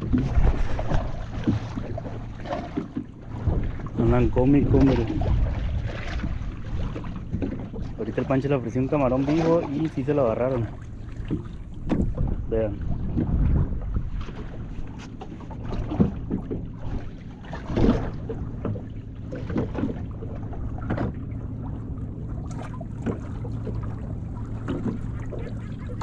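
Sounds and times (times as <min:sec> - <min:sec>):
outboard motor idling: 0:00.0 - 0:26.0
water slapping hull: 0:00.0 - 0:26.0.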